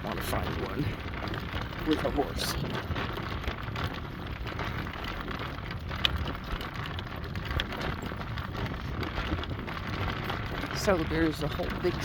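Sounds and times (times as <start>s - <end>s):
cart wheels crunching on dirt: 0.0s - 12.0s
horse hooves on dirt: 0.0s - 12.0s.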